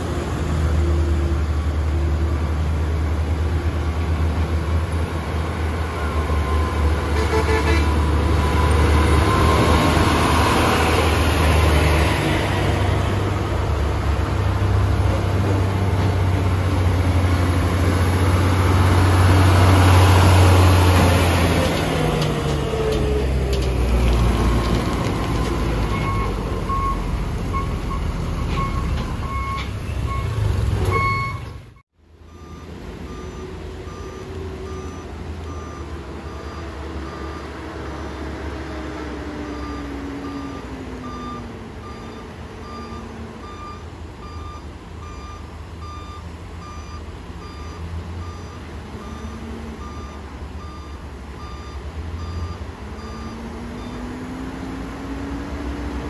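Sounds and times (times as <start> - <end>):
heavy truck diesel engine: 0.0 - 56.0.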